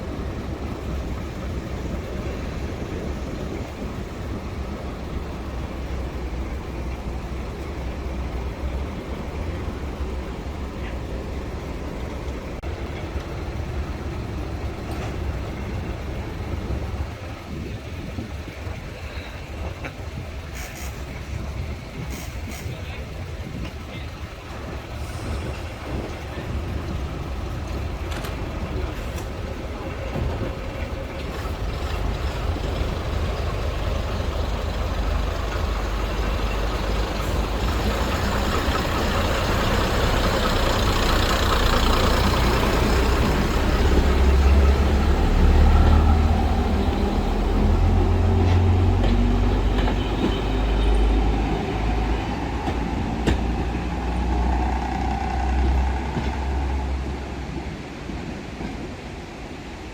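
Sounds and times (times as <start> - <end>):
heavy vehicle engine rumble: 0.0 - 59.9.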